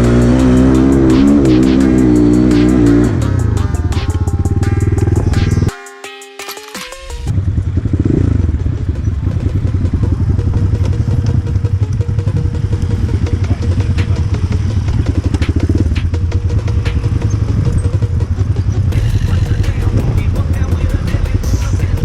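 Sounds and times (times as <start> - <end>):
motorcycle engine running hard: 0.0 - 5.7, 7.3 - 22.0.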